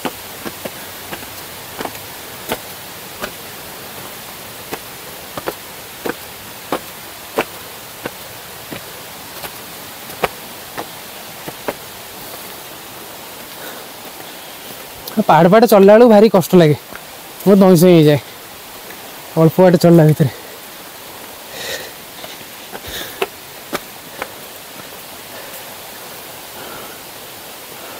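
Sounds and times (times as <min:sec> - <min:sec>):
footsteps on stone steps: 0:00.0 - 0:15.9, 0:16.8 - 0:17.6, 0:20.1 - 0:26.0
steady rushing hiss: 0:00.0 - 0:27.9.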